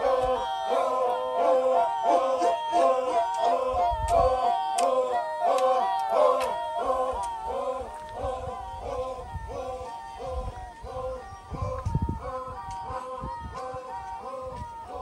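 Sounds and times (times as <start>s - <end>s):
voices singing: 0.0s - 15.0s.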